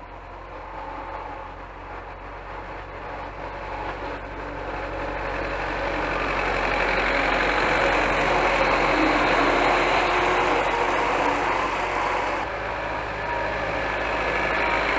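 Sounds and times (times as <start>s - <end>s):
tractor diesel engine under load: 0.0s - 14.9s.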